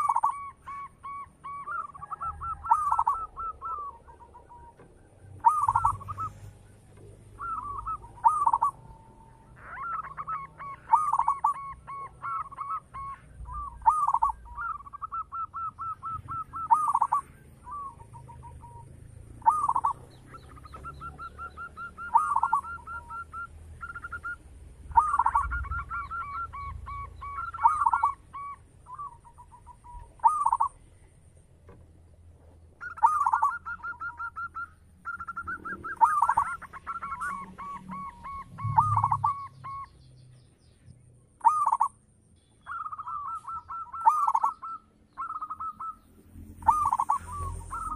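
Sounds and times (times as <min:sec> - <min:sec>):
dove cooing: 0:00.0 - 0:30.9, 0:32.4 - 0:40.0, 0:41.4 - 0:42.0, 0:42.6 - 0:47.9.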